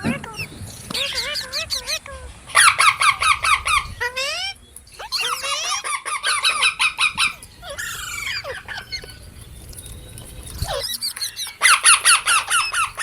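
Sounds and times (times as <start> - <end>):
parrots calling shrilly: 0.1 - 13.0
soft bird chirps: 0.1 - 13.0.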